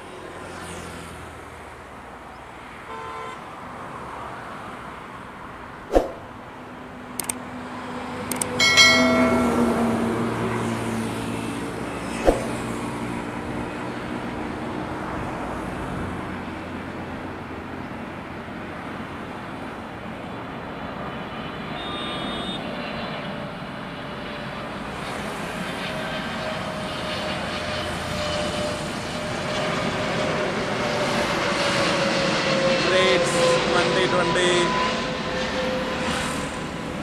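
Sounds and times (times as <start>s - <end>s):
jet airliner engine noise: 3.5s - 37.0s.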